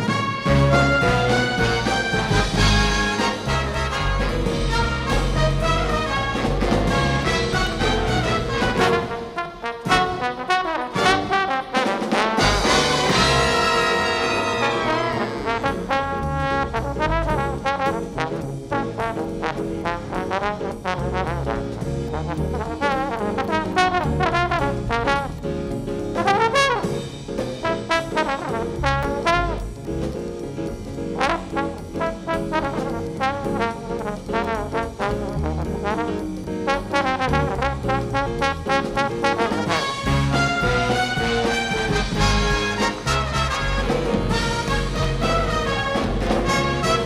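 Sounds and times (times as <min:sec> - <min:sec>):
brass instrument solo: 0:00.0 - 0:25.4, 0:26.2 - 0:27.0, 0:27.6 - 0:29.6, 0:31.2 - 0:47.0
bass: 0:00.0 - 0:47.0
drums: 0:00.0 - 0:47.0.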